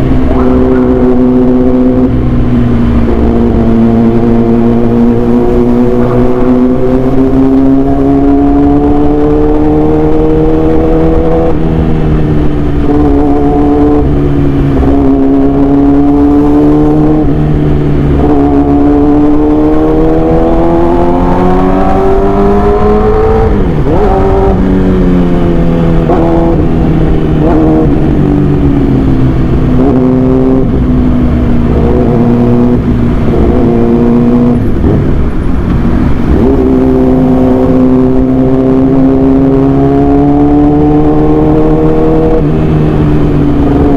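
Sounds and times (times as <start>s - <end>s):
motorcycle engine revving high: 0.0s - 43.9s.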